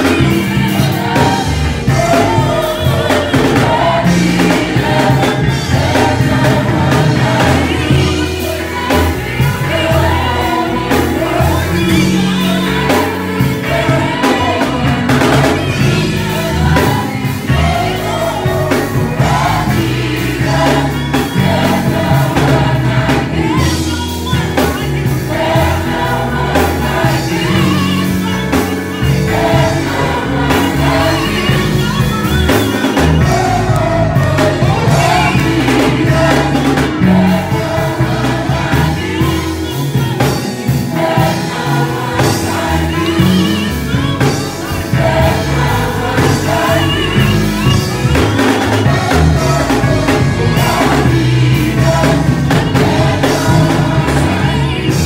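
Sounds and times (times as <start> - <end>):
electronic keyboard: 0.0 - 55.0
gospel choir singing: 0.0 - 55.0.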